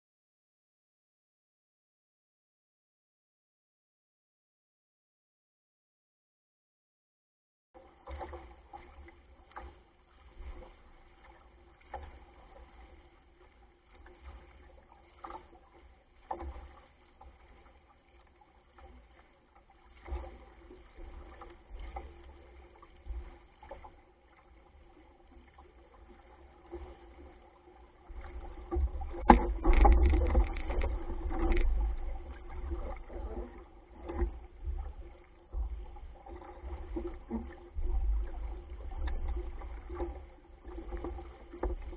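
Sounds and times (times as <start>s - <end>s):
water splashing along a hull: 7.8s - 41.9s.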